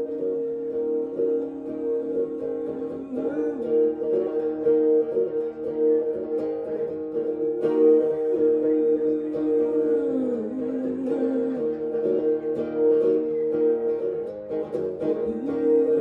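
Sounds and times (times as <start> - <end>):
man singing: 0.0 - 14.3, 15.0 - 16.0
acoustic guitar strumming: 0.0 - 16.0.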